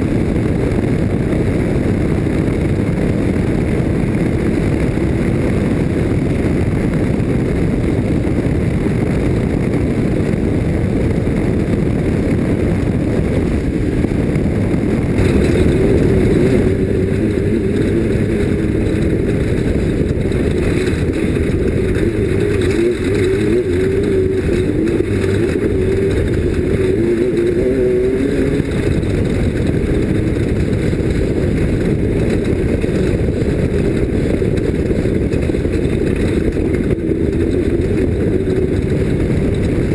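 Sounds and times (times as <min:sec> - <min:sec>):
constant rush of noise: 0:00.0 - 0:39.9
race vehicle engine running hard: 0:00.0 - 0:39.9.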